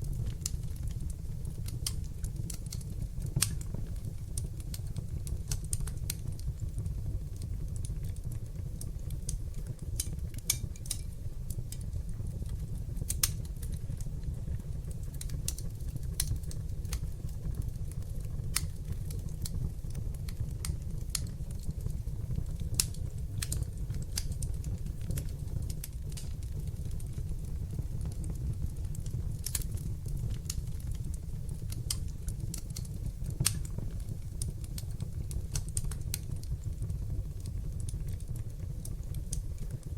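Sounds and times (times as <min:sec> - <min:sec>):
fire crackles and pops: 0:00.0 - 0:39.9
fireplace fire rumbling: 0:00.0 - 0:39.9.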